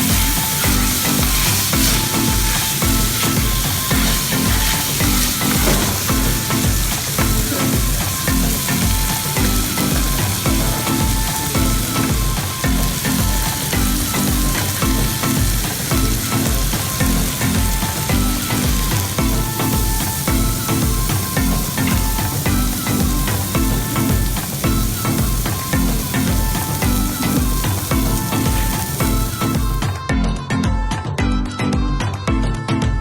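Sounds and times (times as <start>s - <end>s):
chicken sizzling in a pan: 0.0s - 30.0s
background music with a beat: 0.0s - 33.0s.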